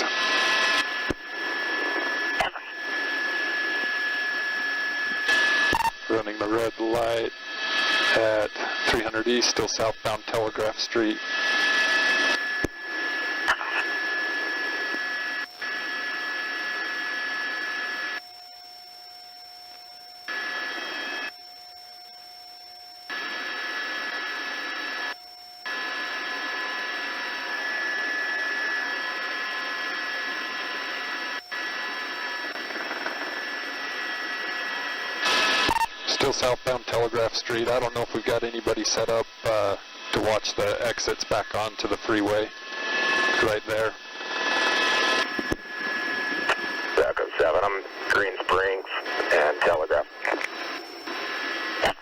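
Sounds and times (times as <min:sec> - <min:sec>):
police radio static hiss: 0:00.0 - 0:18.2, 0:20.3 - 0:21.3, 0:23.1 - 0:25.1, 0:25.7 - 0:52.0
steady radio tones: 0:00.0 - 0:18.2, 0:20.2 - 0:21.4, 0:23.1 - 0:52.0.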